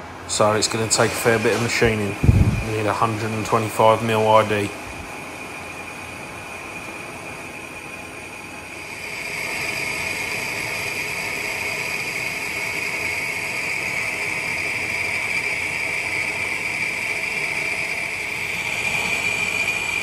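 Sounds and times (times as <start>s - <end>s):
lathe cutting hiss and whine: 0.0s - 20.0s.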